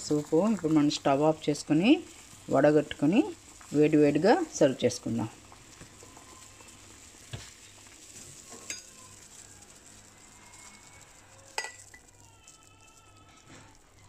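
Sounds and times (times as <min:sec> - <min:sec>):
soup simmering hiss: 0:00.0 - 0:14.0.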